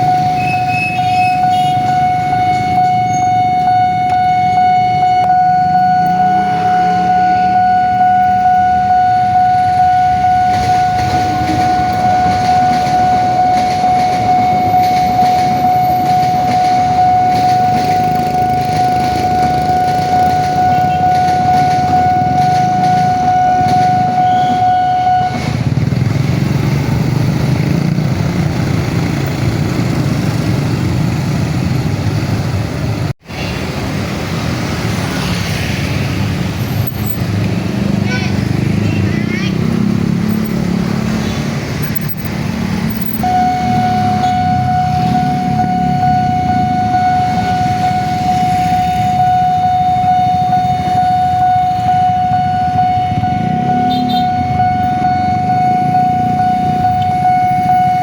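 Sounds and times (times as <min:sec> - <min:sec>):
level-crossing alarm tone: 0:00.0 - 0:31.2, 0:39.6 - 0:58.0
road traffic engine noise: 0:00.0 - 0:58.0.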